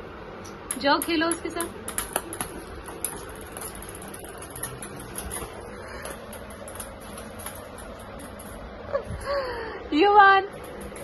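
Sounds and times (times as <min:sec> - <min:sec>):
low room noise: 0:00.0 - 0:11.0
dog claws clicking on tiles: 0:00.7 - 0:09.3, 0:10.4 - 0:11.0.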